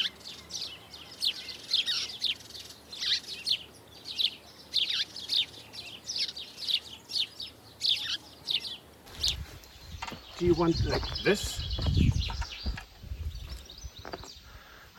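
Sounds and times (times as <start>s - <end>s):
small bird chirping: 1.3s - 14.9s.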